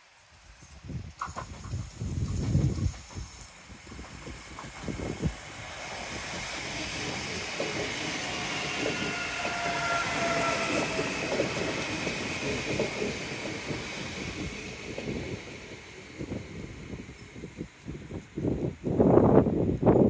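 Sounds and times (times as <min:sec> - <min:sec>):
electric train whine: 0:00.0 - 0:20.0
train wheels clattering over rails: 0:01.0 - 0:18.4.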